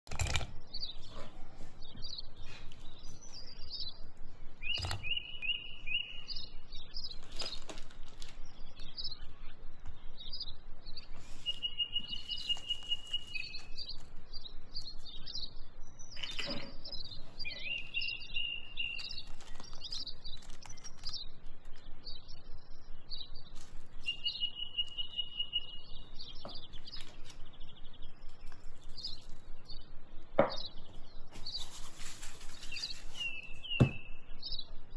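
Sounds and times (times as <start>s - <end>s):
bird trill: 0.1s - 34.9s
small birds chirping: 0.1s - 34.9s.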